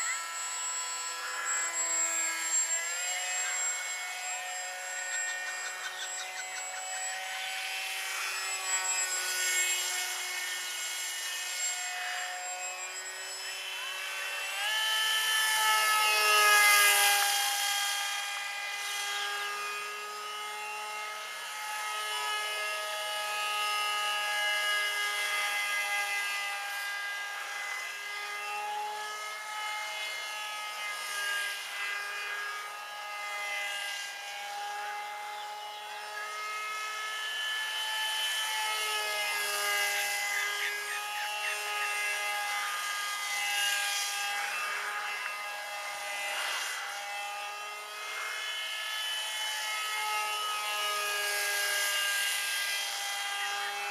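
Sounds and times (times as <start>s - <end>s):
model jet motor droning hum: 0.0s - 53.9s.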